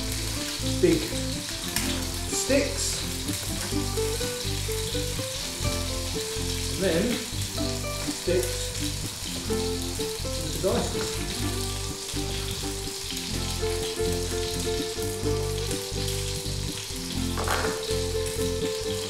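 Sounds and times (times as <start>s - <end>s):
pan-frying sizzle: 0.0s - 19.0s.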